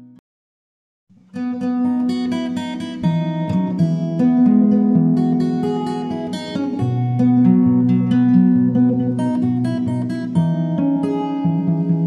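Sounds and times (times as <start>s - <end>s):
acoustic guitar plucked notes: 1.2s - 12.0s.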